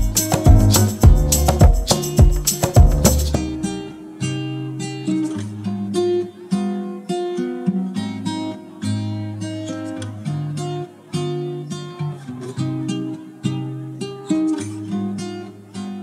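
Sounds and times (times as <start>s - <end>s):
acoustic guitar plucking: 0.0s - 16.0s.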